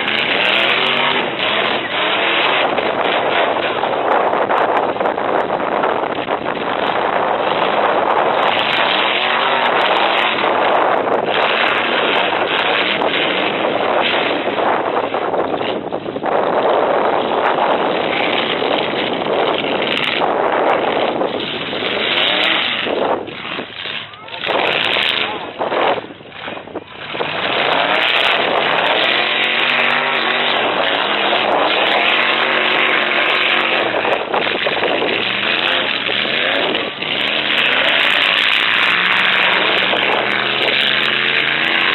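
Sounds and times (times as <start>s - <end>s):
truck engines running hard: 0.0s - 41.9s
wind buffeting microphone: 0.0s - 41.9s.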